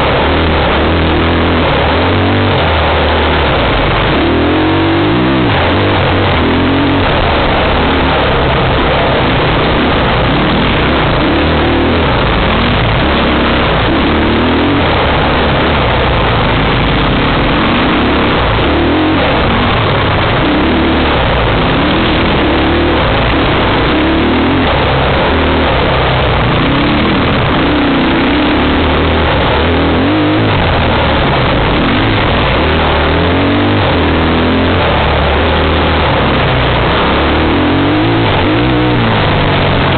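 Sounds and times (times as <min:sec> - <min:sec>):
loud rushing noise: 0:00.0 - 0:39.9
off-road engine revving: 0:00.0 - 0:39.9.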